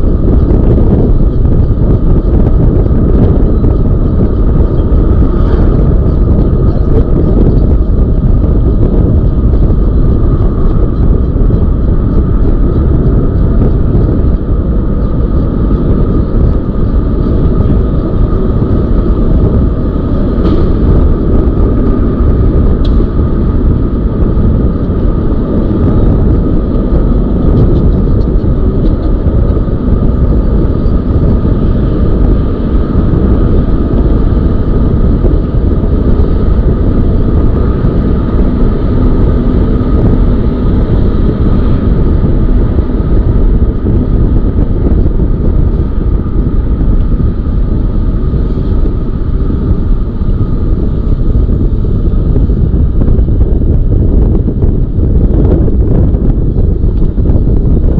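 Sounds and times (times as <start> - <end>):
thin whine: 0.0 - 57.9
wind buffeting microphone: 0.0 - 57.9.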